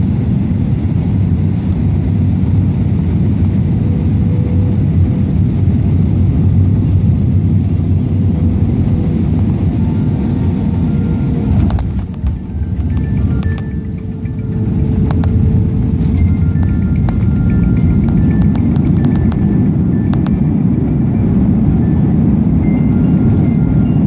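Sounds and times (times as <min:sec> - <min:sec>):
small aircraft engine droning: 0:00.0 - 0:24.0.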